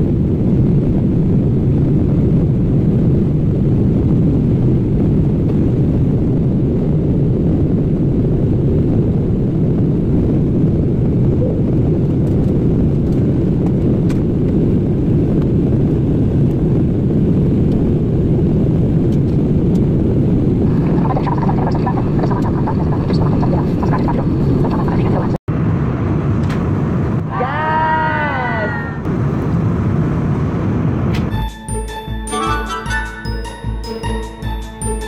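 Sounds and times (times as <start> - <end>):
airliner engine rumble: 0.0 - 35.0.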